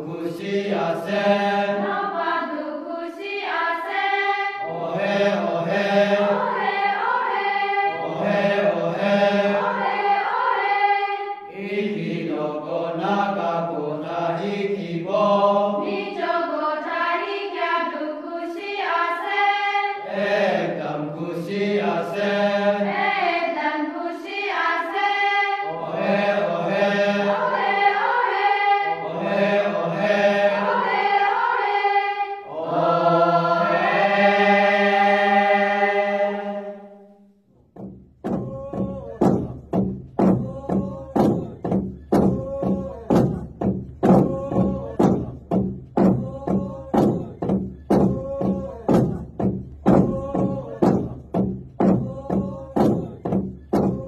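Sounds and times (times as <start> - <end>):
group singing chant-like: 0.0 - 37.1, 38.2 - 54.0.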